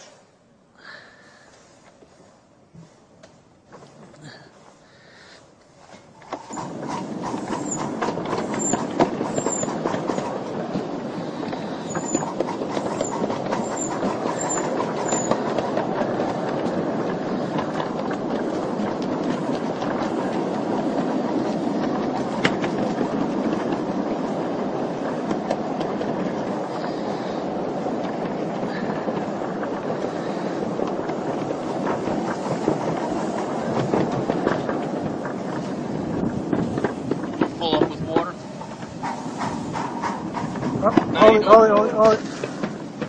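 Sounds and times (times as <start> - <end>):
steam locomotive rumbling: 0.0 - 43.0
wheels clicking over rail joints: 0.8 - 43.0.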